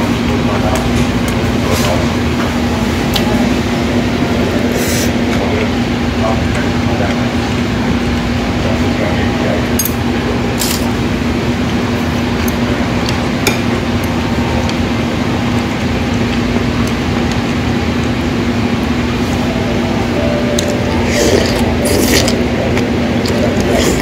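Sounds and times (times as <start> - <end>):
restaurant room hum: 0.0 - 24.0.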